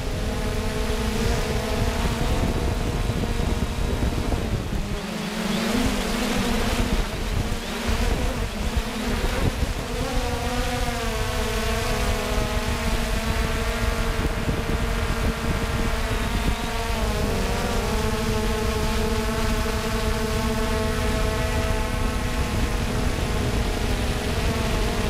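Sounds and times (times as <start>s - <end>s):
drone propellers buzzing: 0.0s - 25.0s
wind on microphone: 0.0s - 25.0s.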